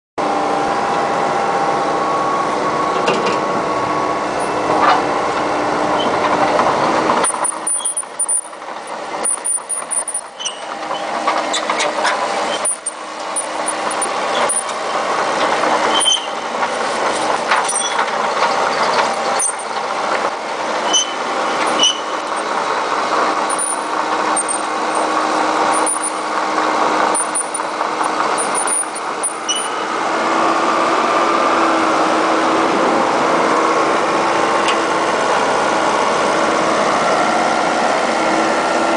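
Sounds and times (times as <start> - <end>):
excavator diesel engine running: 0.2 - 38.9.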